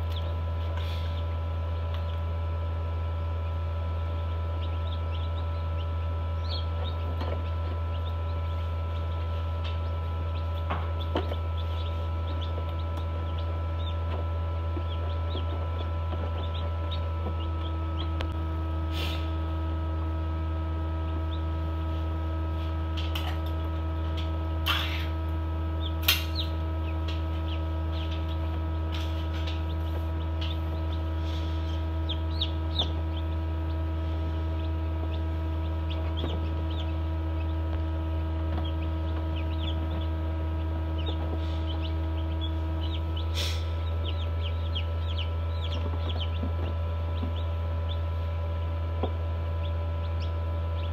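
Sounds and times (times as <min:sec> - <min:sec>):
chicks peeping: 0:00.0 - 0:50.9
incubator fan hum: 0:00.0 - 0:50.9.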